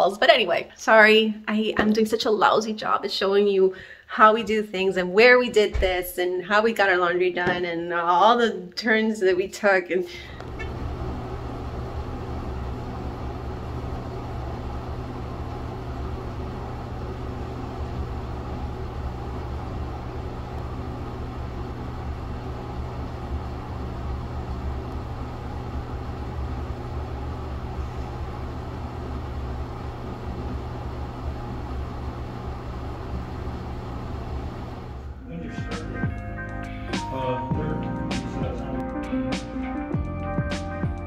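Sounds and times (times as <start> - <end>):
ventilation fan humming: 0.0 - 35.9.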